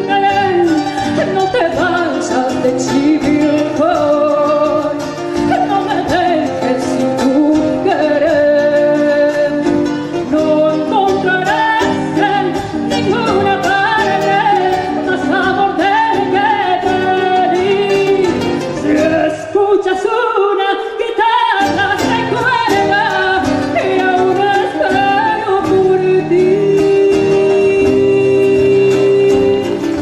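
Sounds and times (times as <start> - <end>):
acoustic guitar: 0.0 - 30.0
person singing: 0.0 - 30.0.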